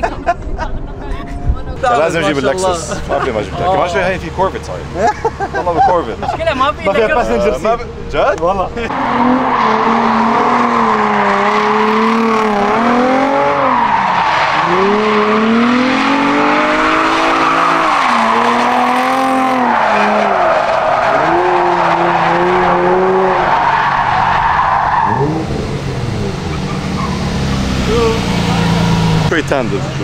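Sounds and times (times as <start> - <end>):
car engine revving: 2.7 - 30.0.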